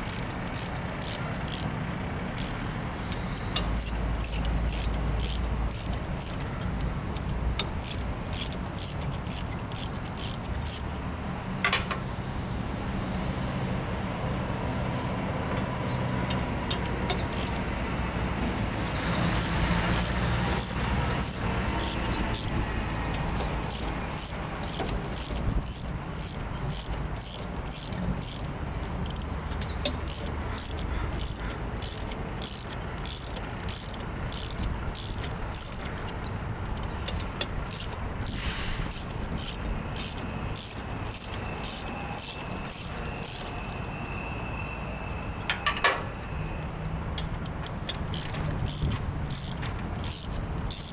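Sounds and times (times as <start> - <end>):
ratchet wrench clicking: 0.0 - 1.7, 2.3 - 11.5, 16.3 - 17.8, 19.3 - 43.9, 47.2 - 50.9.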